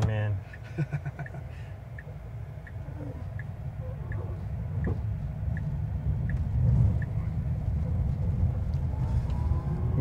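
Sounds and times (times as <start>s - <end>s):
turn signal ticking: 0.0s - 9.4s
road and drivetrain rumble: 0.0s - 10.0s.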